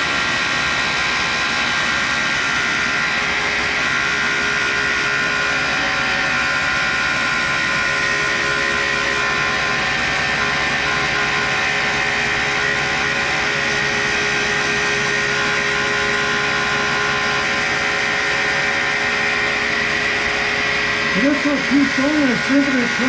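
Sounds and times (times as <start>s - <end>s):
dust vacuum running: 0.0s - 23.0s
grinder whining: 0.0s - 23.0s.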